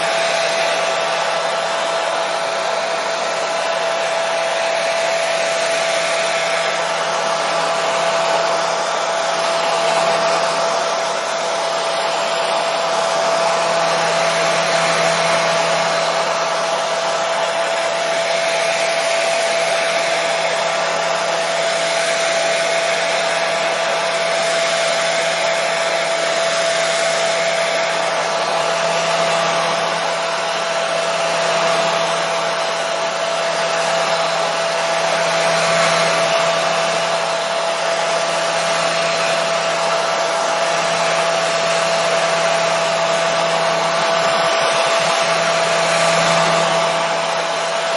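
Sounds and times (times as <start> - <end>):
hair dryer blowing with whine: 0.0 - 47.9.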